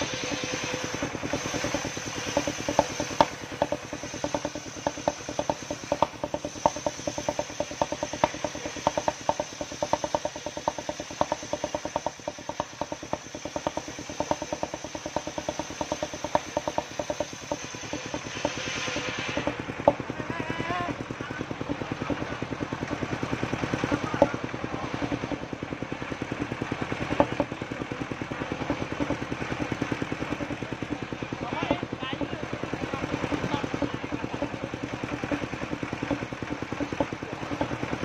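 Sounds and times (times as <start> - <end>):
saw blade cutting log: 0.0 - 38.0
sawmill engine running: 0.0 - 38.0.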